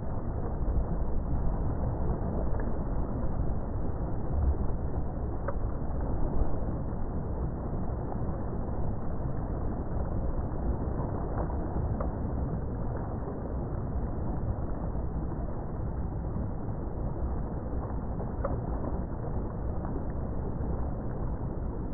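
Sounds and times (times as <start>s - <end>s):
boat engine and water rushing: 0.0s - 21.9s.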